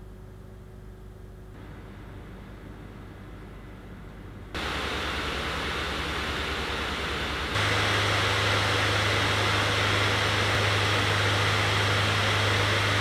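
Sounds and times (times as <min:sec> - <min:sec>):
low hum: 0:00.0 - 0:13.0
laptop cooling fans rushing: 0:01.6 - 0:13.0.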